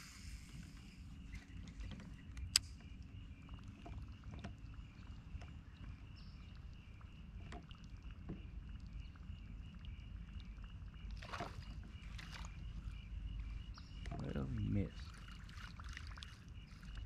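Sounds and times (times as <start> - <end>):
steady low rumble: 0.0 - 15.1
faint pulsing chirr: 0.0 - 17.0.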